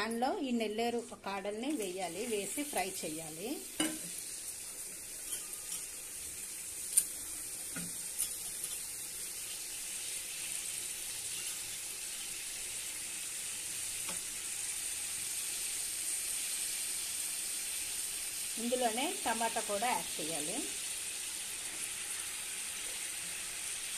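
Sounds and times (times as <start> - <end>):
stems sizzling in hot oil: 0.0 - 23.9.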